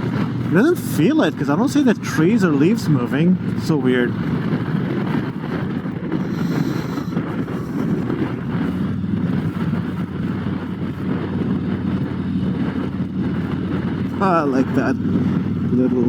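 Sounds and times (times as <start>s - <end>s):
motorcycle engine cruising: 0.0s - 16.0s
wind buffeting microphone: 0.0s - 16.0s.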